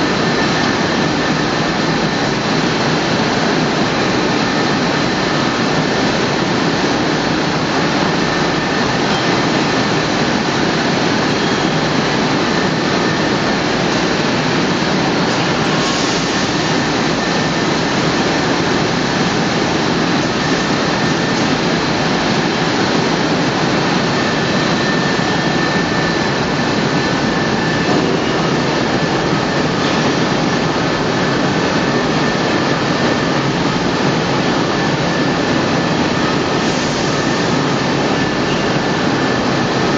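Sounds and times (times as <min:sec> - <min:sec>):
loud machine noise: 0:00.0 - 0:39.9.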